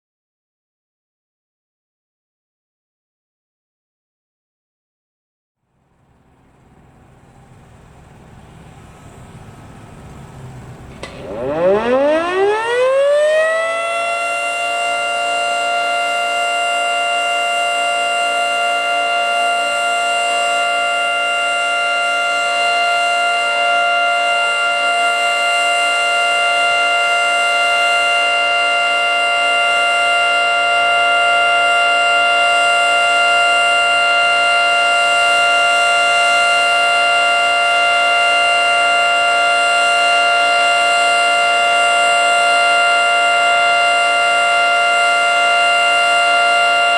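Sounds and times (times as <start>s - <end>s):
outdoor warning siren: 5.6s - 46.9s.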